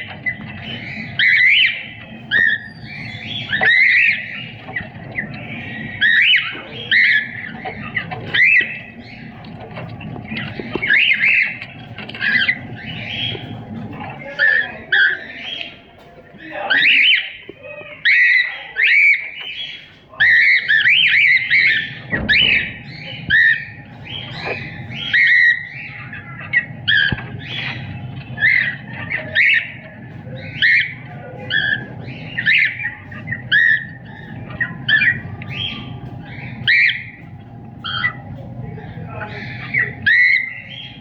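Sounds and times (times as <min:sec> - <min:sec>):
cockatiel chirping and whistling: 0:00.1 - 0:13.6, 0:16.7 - 0:37.2, 0:39.2 - 0:41.0.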